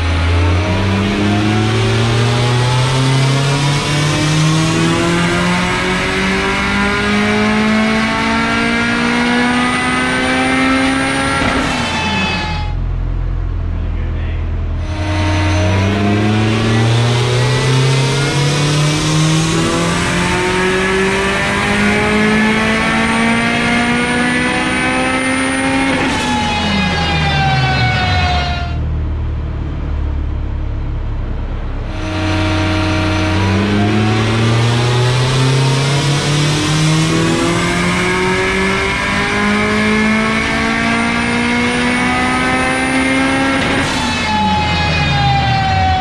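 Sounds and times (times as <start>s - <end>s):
car engine revving on a dyno: 0.0s - 12.8s, 14.8s - 46.0s.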